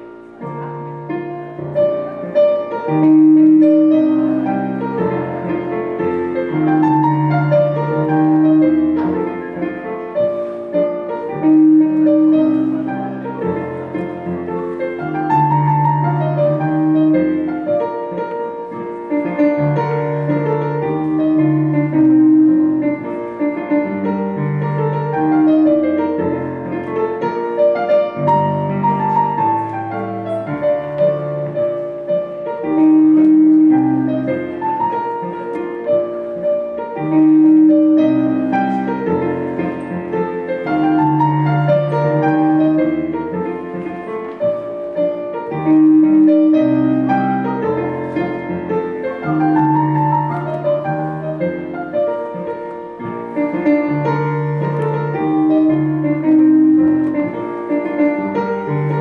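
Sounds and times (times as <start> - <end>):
lively piano dance tune: 0.0 - 59.0.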